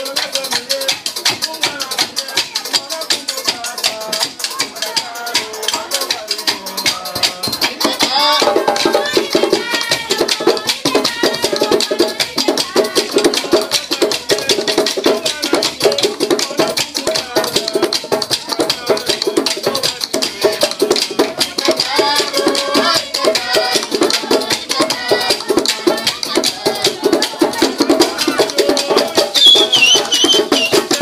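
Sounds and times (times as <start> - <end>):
group of voices singing: 0.0 - 31.0
hand drumming: 0.0 - 31.0
shakers: 0.0 - 31.0.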